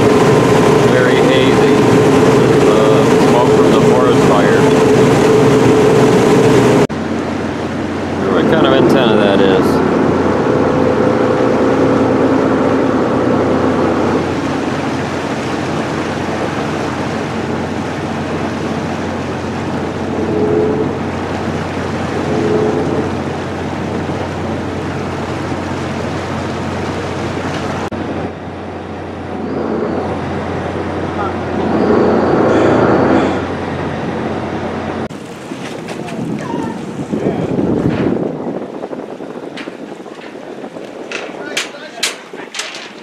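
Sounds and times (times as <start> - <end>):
boat diesel engines humming: 0.0 - 43.0
wind and water noise: 0.0 - 43.0.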